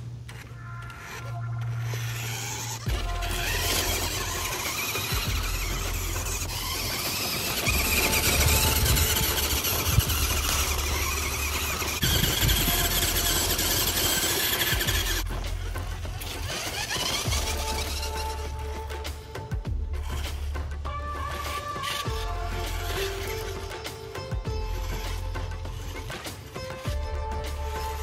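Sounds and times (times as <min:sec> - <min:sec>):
toy truck electric motor whining: 0:00.3 - 0:19.1, 0:20.0 - 0:28.0.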